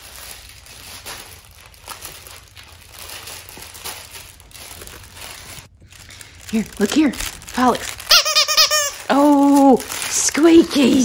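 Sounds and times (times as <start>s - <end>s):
crinkle paper rustling in dog toy: 0.0s - 11.0s.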